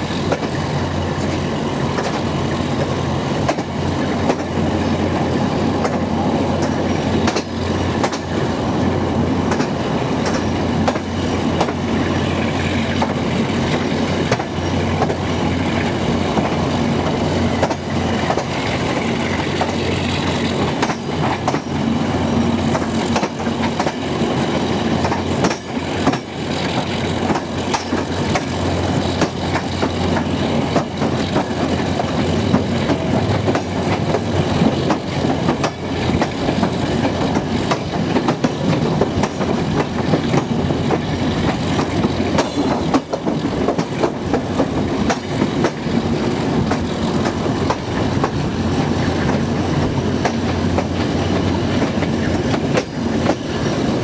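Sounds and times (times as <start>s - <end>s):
train rumbling along track: 0.0s - 54.0s
wheels clicking over rails: 1.2s - 8.4s, 9.4s - 21.8s, 22.6s - 54.0s.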